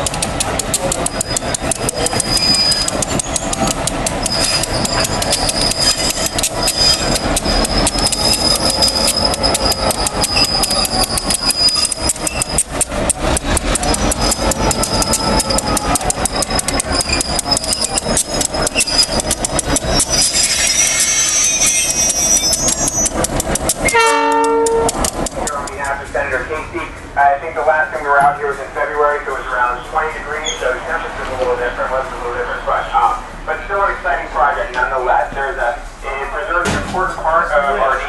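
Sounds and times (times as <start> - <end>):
train rumbling and rattling: 0.0 - 38.0.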